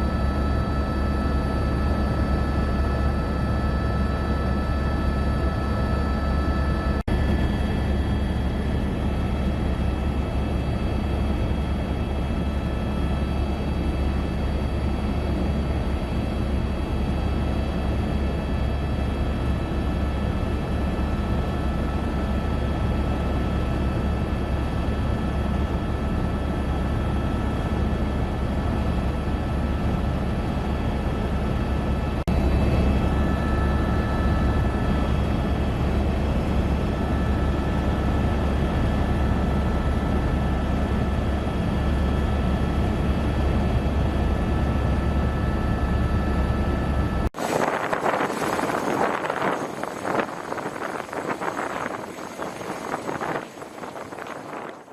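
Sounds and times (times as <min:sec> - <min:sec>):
helicopter in flight: 0:00.0 - 0:54.9.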